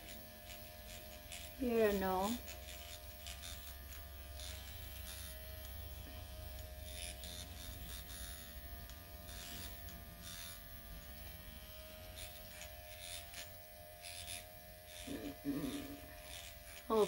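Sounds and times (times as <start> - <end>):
electric pen buzzing: 0.0 - 17.0.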